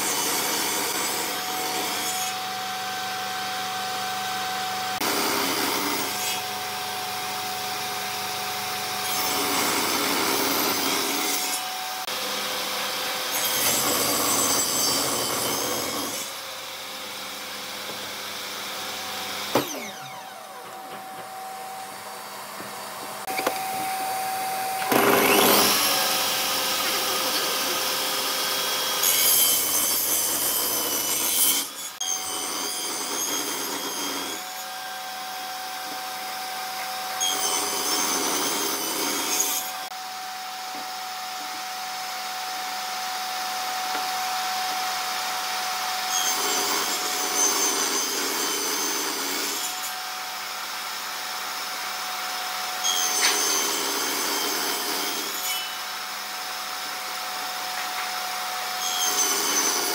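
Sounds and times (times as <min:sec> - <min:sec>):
saw blade cutting wood: 0:00.0 - 0:40.0, 0:40.6 - 0:59.9
table saw motor whine: 0:00.0 - 0:59.9.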